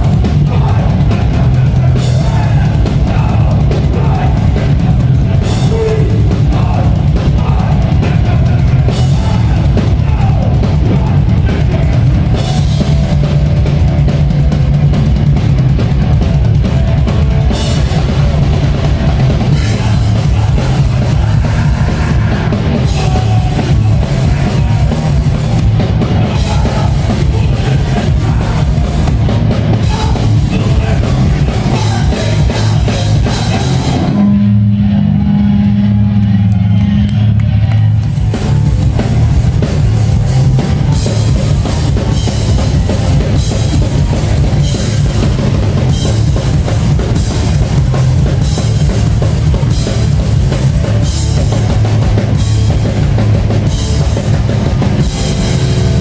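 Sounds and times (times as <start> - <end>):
punk band playing: 0.0 - 56.0.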